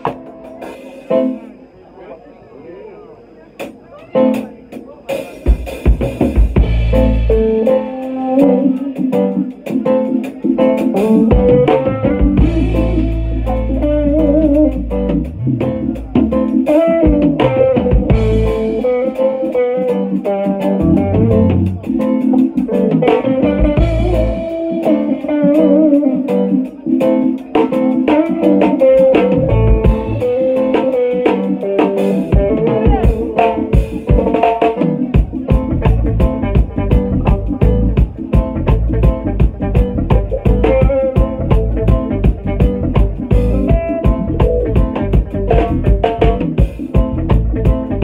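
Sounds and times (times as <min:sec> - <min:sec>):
bass guitar: 0:00.0 - 0:01.7, 0:04.1 - 0:48.0
plucked guitar lines: 0:00.0 - 0:01.7, 0:03.6 - 0:48.0
drums: 0:00.0 - 0:48.0.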